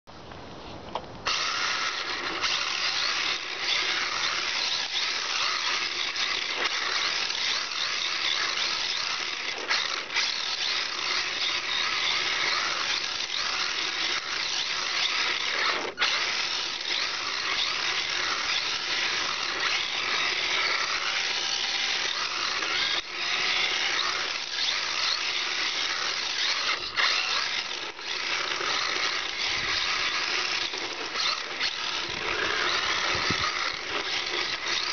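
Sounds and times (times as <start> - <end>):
toy car motor whirring: 1.2 - 34.9.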